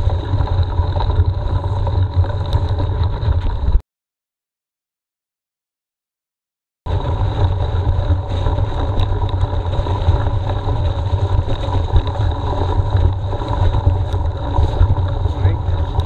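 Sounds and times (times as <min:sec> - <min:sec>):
bike tyre and frame noise: 0:00.0 - 0:03.8, 0:06.9 - 0:16.0
wind buffeting microphone: 0:00.0 - 0:03.8, 0:06.9 - 0:16.0.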